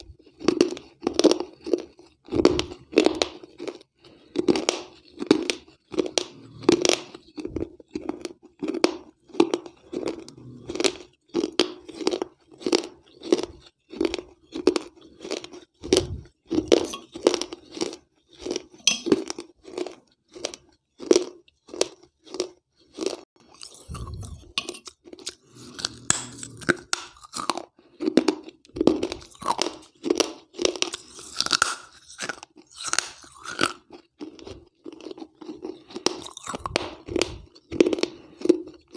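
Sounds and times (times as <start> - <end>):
chewing crunches: 0.0 - 38.9.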